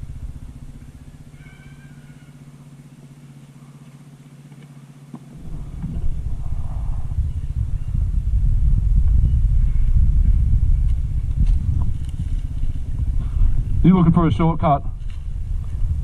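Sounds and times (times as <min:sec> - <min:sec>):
dirt bike engine idling and revving: 0:00.0 - 0:16.0.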